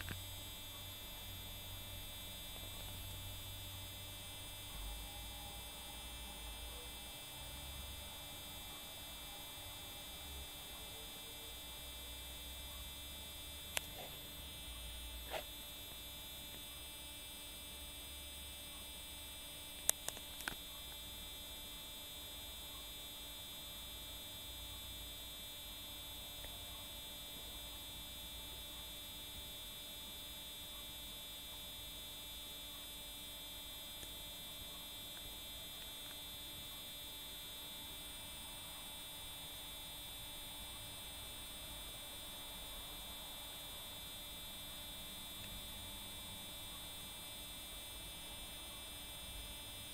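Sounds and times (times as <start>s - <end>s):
electrical hum with high tones: 0.0s - 49.9s.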